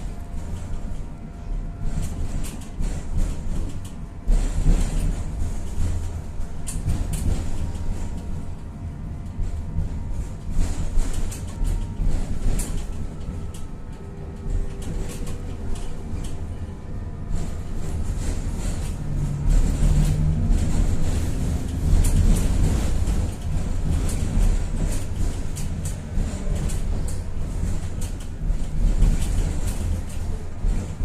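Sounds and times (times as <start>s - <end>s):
tram wheels rumbling on rails: 0.0s - 31.0s.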